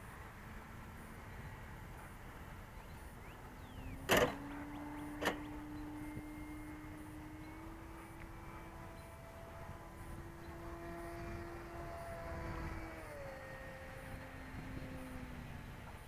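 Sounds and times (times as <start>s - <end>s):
electric motor humming: 0.4s - 16.0s.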